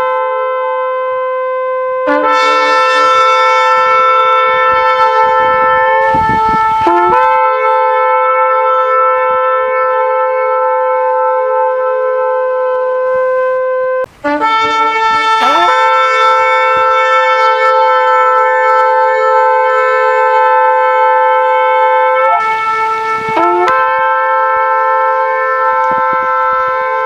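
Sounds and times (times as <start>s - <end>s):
shofar blasts: 0.0s - 27.0s.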